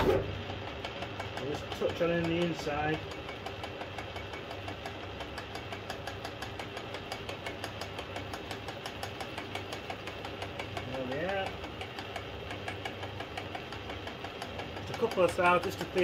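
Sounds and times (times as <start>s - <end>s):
lathe motor hum: 0.0s - 16.0s
rapid ticking: 0.5s - 16.0s.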